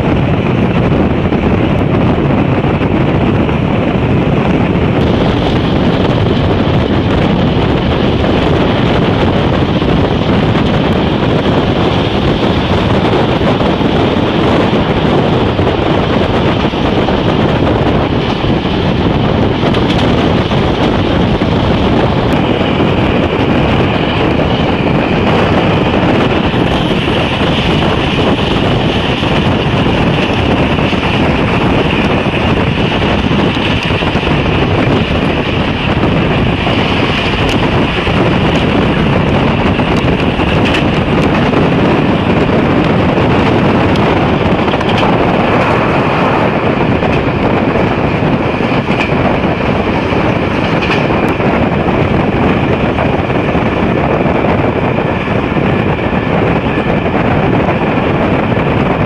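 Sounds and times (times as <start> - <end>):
train running gear rumble: 0.0 - 59.0
wind rushing on microphone: 0.0 - 59.0.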